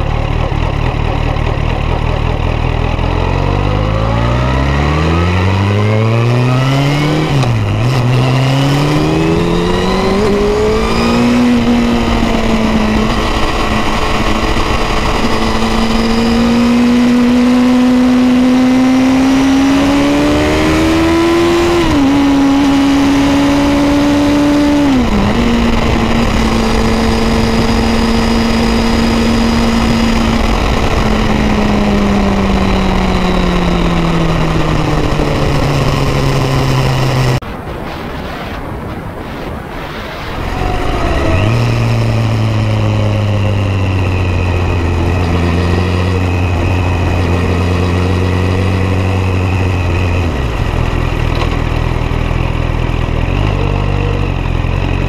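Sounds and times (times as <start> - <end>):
motorcycle engine accelerating: 0.0 - 38.6, 39.2 - 55.0
wind noise: 3.0 - 55.0.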